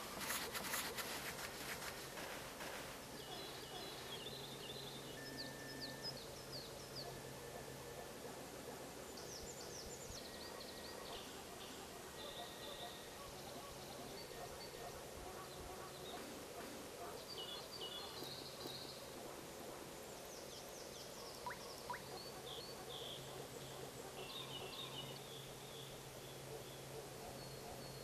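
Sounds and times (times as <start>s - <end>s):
small birds chirping: 0.0s - 7.3s, 9.1s - 28.0s.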